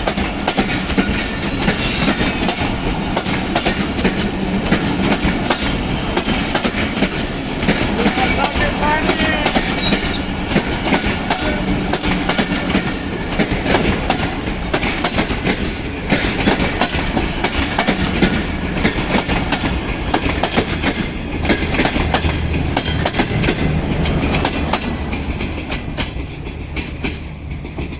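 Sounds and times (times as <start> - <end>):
train rumble: 0.0 - 27.9
train wheels clattering over joints: 0.0 - 27.9.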